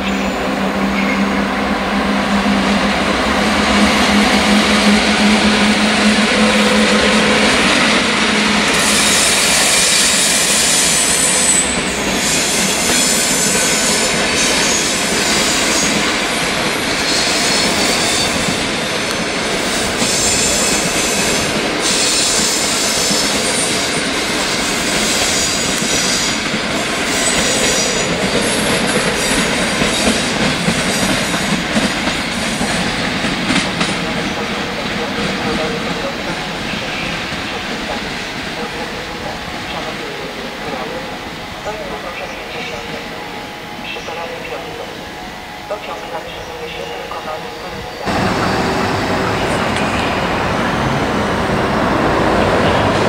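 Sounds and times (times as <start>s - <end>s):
wheels squealing on rails: 0.0s - 1.6s, 2.2s - 53.0s
electric locomotive hum: 0.0s - 23.1s, 24.1s - 53.0s.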